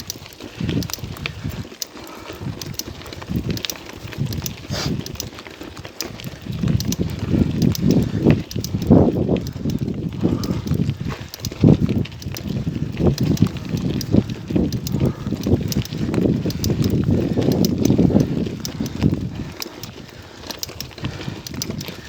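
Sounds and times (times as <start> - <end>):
bicycle tyres crunching on dirt: 0.0 - 22.0
bike rattling clicks: 0.0 - 22.0.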